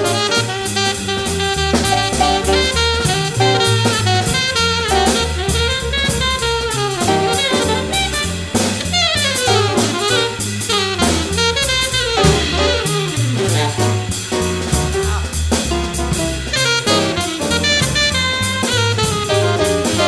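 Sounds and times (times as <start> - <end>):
jazz music: 0.0 - 20.0.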